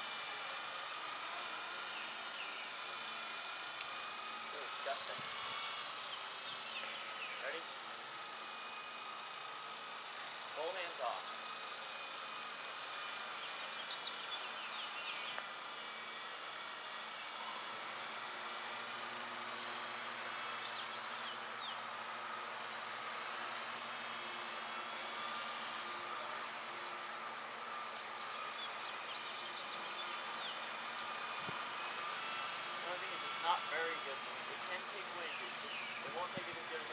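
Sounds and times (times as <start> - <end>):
toy helicopter buzzing whine: 0.0 - 36.9.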